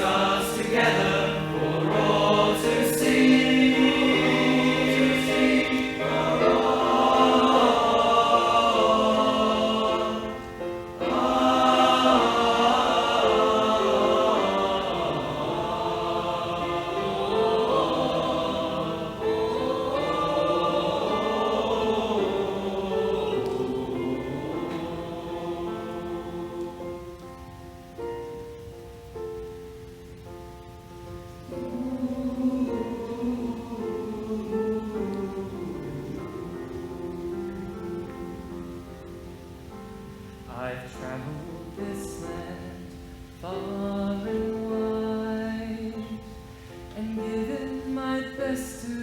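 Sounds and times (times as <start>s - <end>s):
choir singing in harmony: 0.0s - 49.0s.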